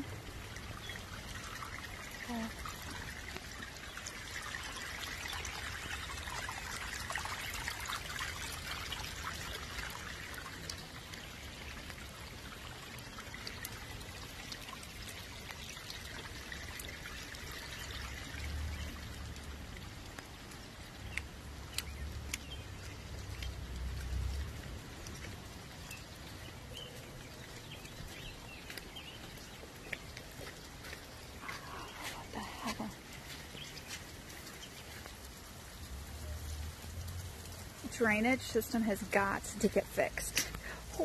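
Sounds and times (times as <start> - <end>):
floodwater running and trickling: 0.0 - 41.0.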